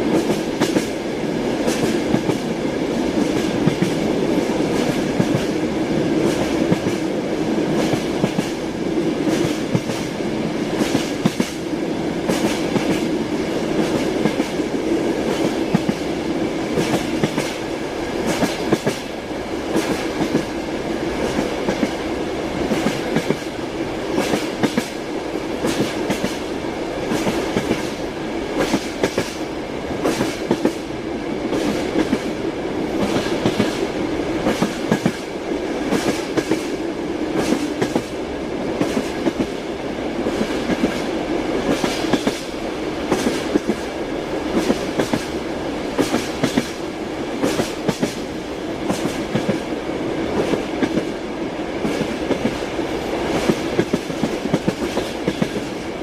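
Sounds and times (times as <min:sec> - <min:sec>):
train wheels clicking over rail joints: 0:00.1 - 0:01.0, 0:01.6 - 0:05.6, 0:06.2 - 0:07.1, 0:07.7 - 0:08.6, 0:09.2 - 0:16.1, 0:16.7 - 0:20.6, 0:22.6 - 0:30.9, 0:31.5 - 0:32.3, 0:32.9 - 0:39.6, 0:40.2 - 0:49.7, 0:50.3 - 0:51.2, 0:53.2 - 0:55.8.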